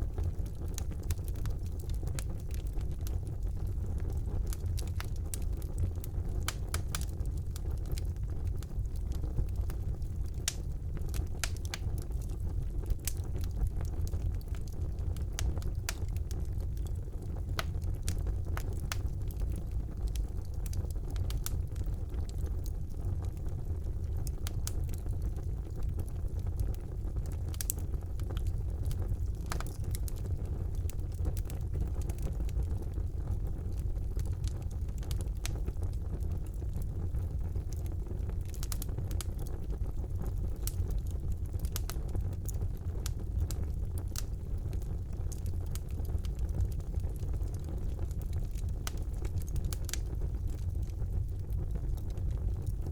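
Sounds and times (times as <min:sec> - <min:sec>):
crackles and pops of fire: 0:00.0 - 0:52.9
fire burning in a fireplace: 0:00.0 - 0:52.9.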